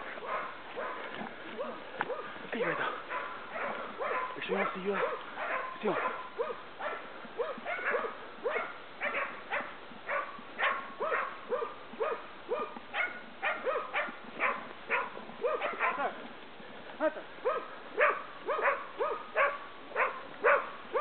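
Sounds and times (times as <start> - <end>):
dogs barking: 0.0 - 16.2, 17.4 - 21.0.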